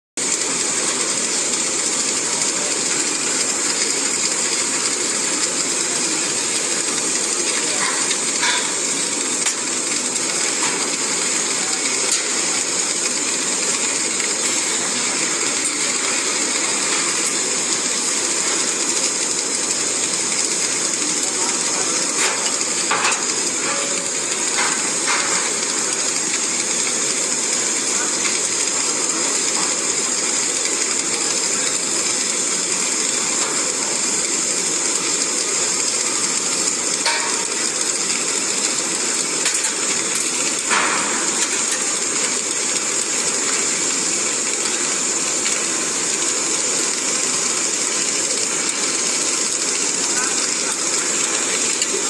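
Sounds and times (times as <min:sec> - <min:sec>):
welding machine hissing and humming: 0:00.2 - 0:52.0.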